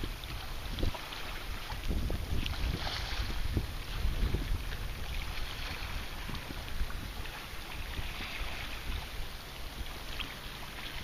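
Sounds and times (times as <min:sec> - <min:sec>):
small waves lapping: 0:00.0 - 0:11.0
wind rumbling on microphone: 0:00.0 - 0:11.0.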